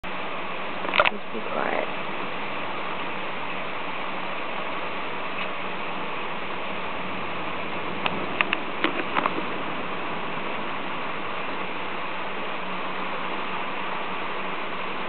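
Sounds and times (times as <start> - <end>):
storm noise hiss: 0.0 - 15.0.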